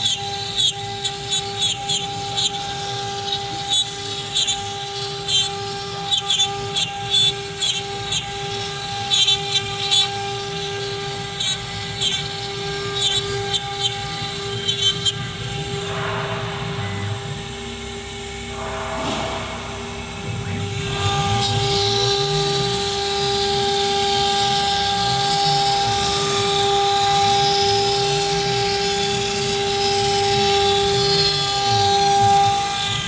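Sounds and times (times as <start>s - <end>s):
router spindle whine: 0.0s - 33.0s.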